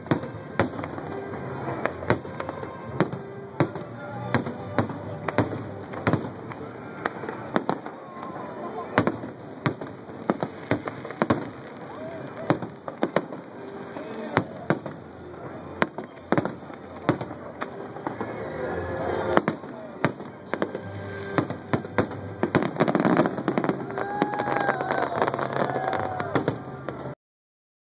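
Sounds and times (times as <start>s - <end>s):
fireworks bursting with crackling: 0.0s - 27.1s.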